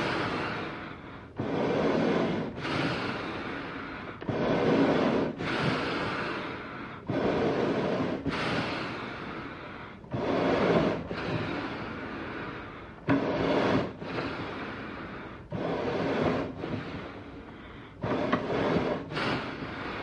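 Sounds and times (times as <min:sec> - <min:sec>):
animal breathing: 0:00.0 - 0:20.0.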